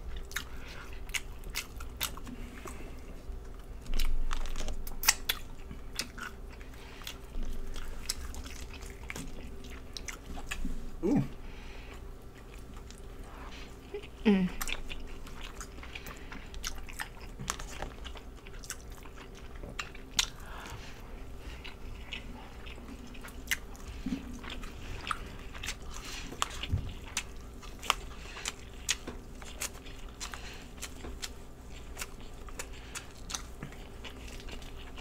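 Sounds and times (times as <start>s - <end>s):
chewing and biting: 0.0s - 10.8s, 11.9s - 35.0s.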